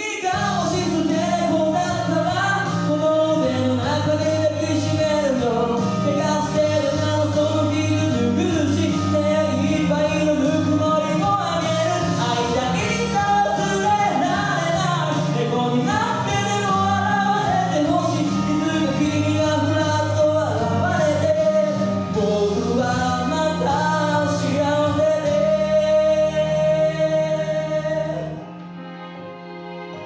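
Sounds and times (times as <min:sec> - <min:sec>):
man singing: 0:00.0 - 0:28.5
instrumental backing music: 0:00.0 - 0:30.0.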